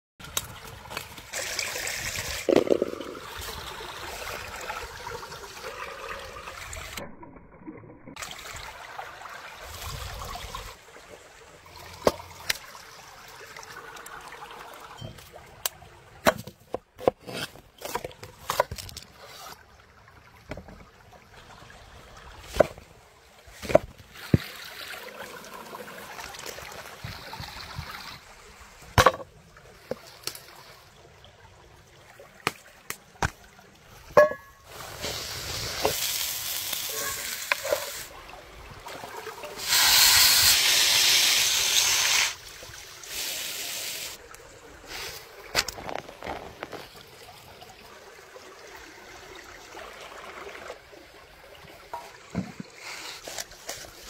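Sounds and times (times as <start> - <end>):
small stream running: 0.2 - 7.1, 8.1 - 54.0.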